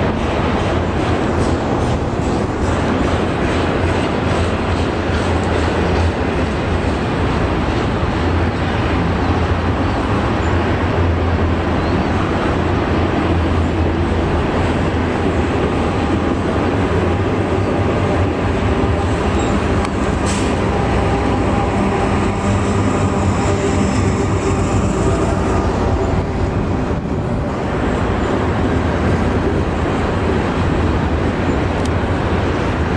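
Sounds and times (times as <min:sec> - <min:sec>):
diesel locomotive engine drone: 0:00.0 - 0:32.9
train wheels rumbling on rails: 0:00.0 - 0:32.9.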